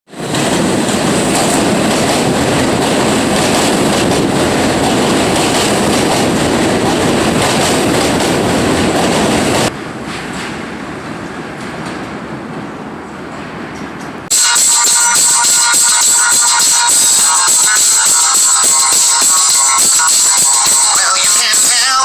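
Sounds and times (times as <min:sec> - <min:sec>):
train rumbling past: 0:00.1 - 0:22.0.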